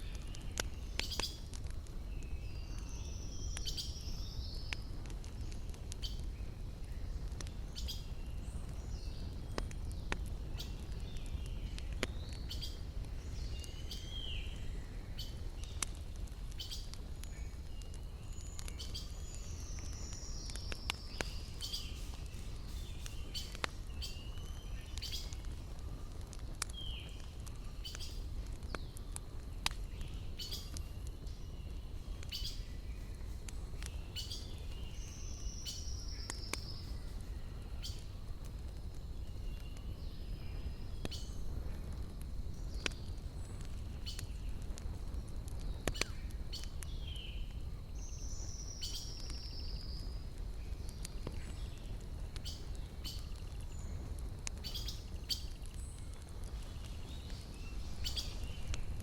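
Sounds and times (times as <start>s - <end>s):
forest birds chirping: 0.0s - 59.0s
wood fire crackling: 0.0s - 59.0s.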